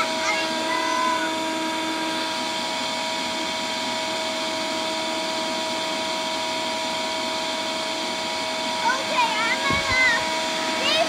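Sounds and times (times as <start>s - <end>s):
shop vac running: 0.0s - 11.0s.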